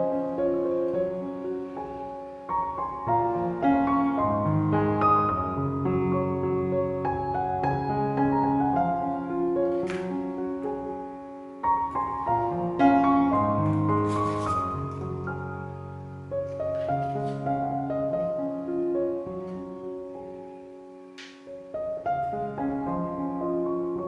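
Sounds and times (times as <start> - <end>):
gentle solo piano: 0.0 - 24.0.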